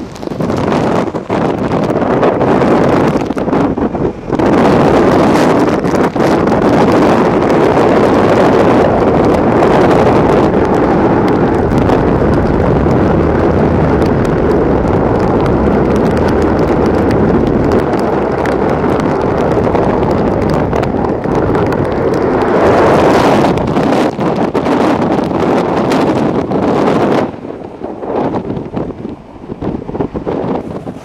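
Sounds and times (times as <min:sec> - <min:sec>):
strong wind on microphone: 0:00.0 - 0:31.0.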